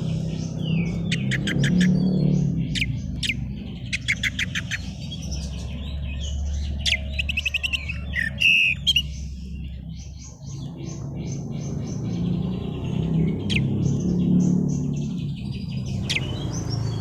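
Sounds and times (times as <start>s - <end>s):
bird singing chattering trills: 0.0s - 17.0s.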